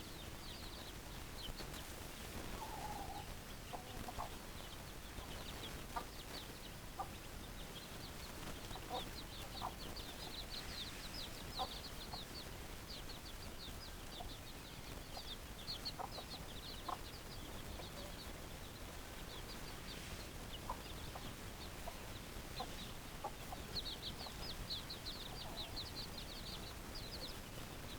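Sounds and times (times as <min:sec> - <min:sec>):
chicks peeping: 0:00.0 - 0:27.9
chickens clucking: 0:00.2 - 0:27.9.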